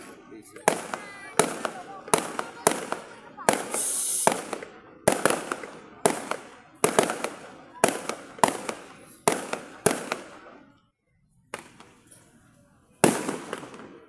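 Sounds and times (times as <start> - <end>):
fireworks bangs with crackle: 0.0 - 10.5, 11.5 - 12.1, 13.0 - 14.0.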